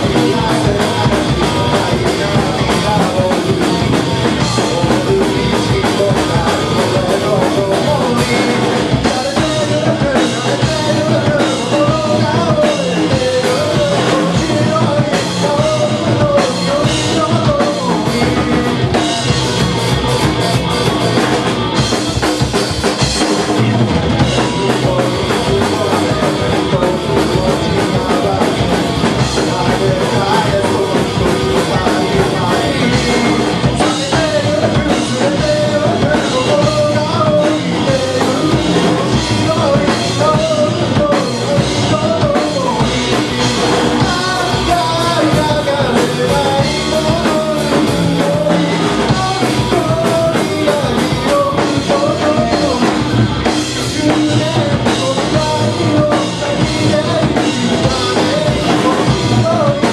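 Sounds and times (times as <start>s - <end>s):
bass guitar: 0.0s - 59.9s
drum kit: 0.0s - 59.9s
electric guitar: 0.0s - 59.9s
man singing: 0.0s - 59.9s.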